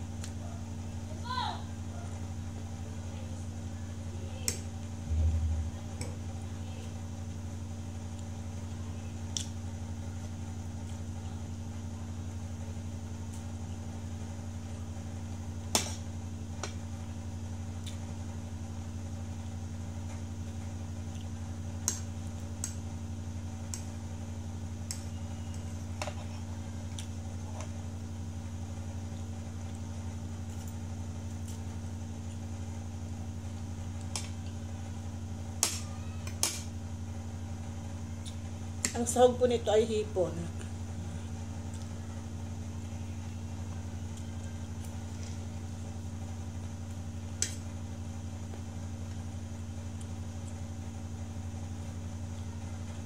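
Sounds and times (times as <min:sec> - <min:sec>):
room appliance hum: 0:00.0 - 0:53.0.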